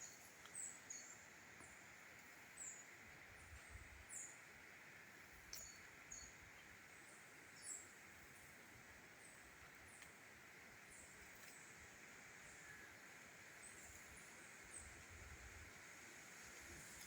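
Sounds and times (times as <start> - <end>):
small birds chirping: 0.0 - 4.5, 5.2 - 15.1
faint steady hiss: 0.0 - 17.0.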